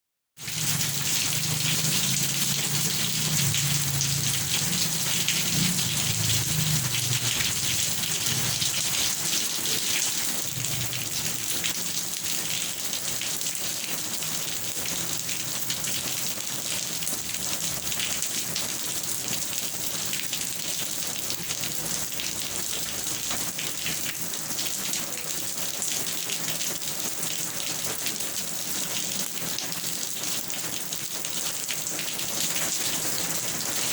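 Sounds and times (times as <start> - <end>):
steady rain: 0.4 - 33.9.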